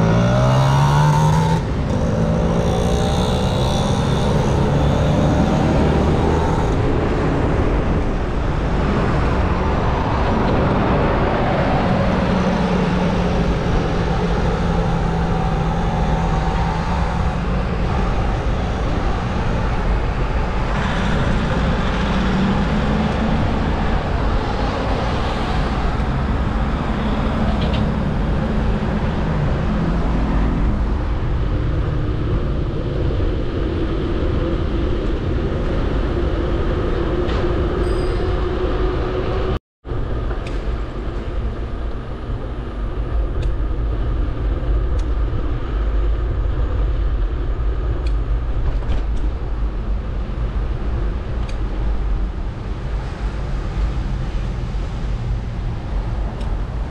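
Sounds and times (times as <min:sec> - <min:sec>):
passing traffic engine hum: 0:00.0 - 0:48.5
wind and road noise: 0:00.0 - 0:56.9.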